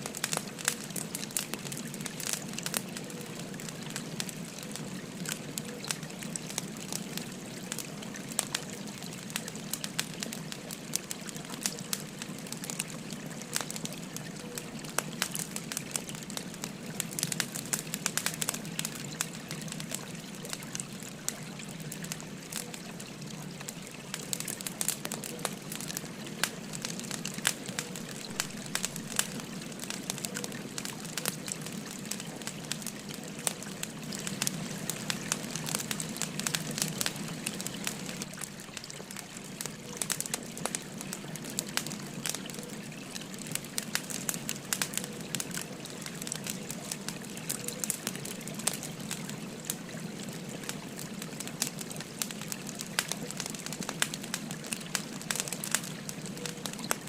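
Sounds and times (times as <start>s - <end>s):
firewood crackling and popping: 0.0s - 57.0s
stream babbling: 0.0s - 57.0s.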